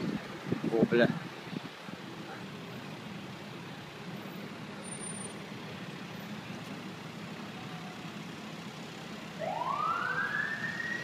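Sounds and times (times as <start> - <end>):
street traffic: 0.0 - 11.0
vehicle engine idling: 0.0 - 11.0.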